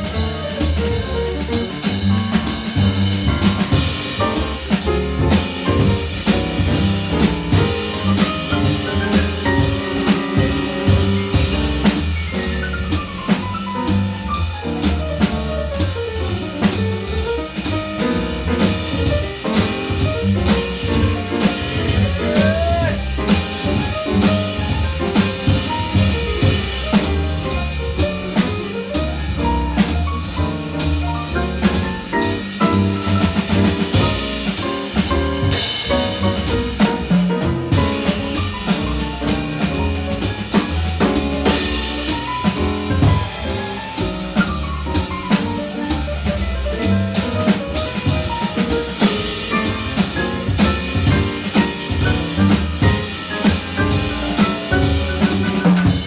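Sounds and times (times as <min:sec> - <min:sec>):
double bass line: 0:00.0 - 0:56.0
grand piano runs: 0:00.0 - 0:56.0
cymbal and drum strokes: 0:01.6 - 0:56.0.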